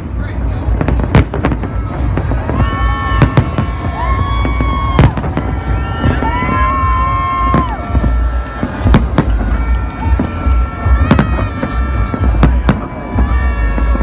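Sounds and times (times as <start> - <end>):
fireworks bursting with sharp bangs: 0.0 - 14.0
long gliding pitched tones: 1.9 - 14.0.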